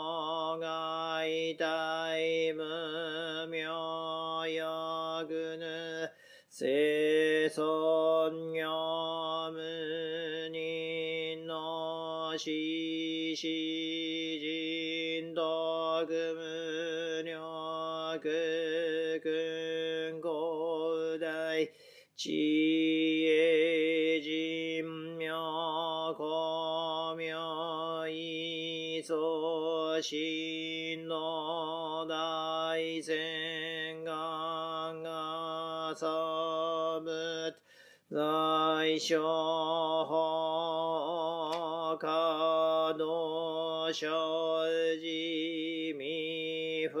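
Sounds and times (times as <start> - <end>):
person chanting long tones: 6.6 - 47.0.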